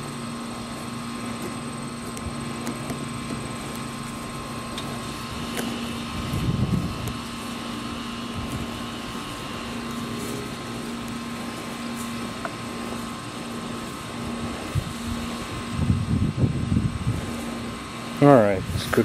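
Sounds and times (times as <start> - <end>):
motor droning: 0.0 - 19.0.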